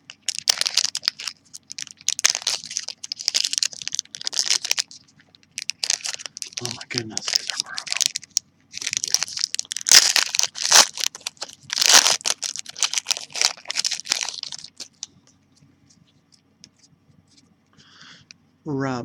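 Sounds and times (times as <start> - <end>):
plastic wrapper crinkling and tearing: 0.0 - 15.4.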